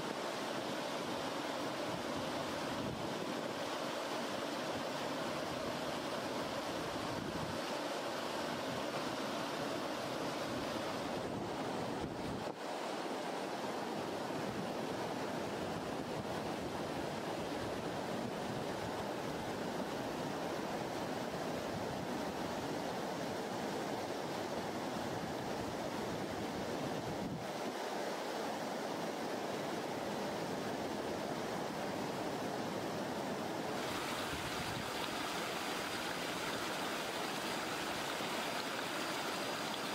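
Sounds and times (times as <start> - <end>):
river water rushing over rocks: 0.0 - 11.9, 16.9 - 39.9.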